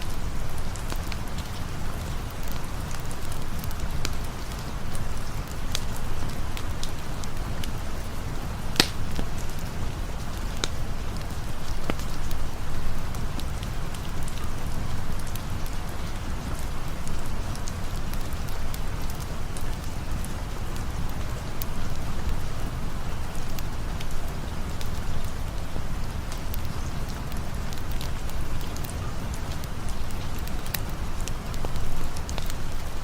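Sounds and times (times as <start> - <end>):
sharp ticks of raindrops: 0.0 - 33.0
steady rain: 0.0 - 33.0.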